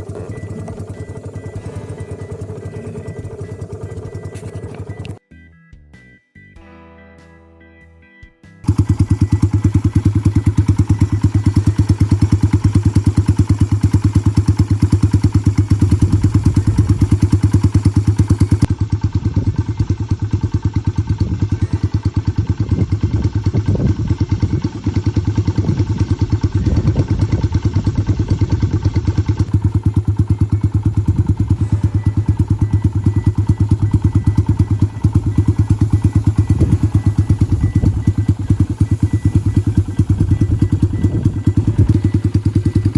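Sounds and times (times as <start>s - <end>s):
motorcycle engine running: 0.0s - 5.2s, 8.6s - 42.9s.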